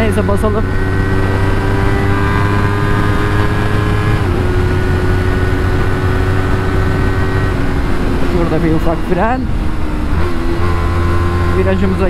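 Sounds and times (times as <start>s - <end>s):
wind rumble on microphone: 0.0s - 11.5s
motorcycle engine running: 0.0s - 12.0s.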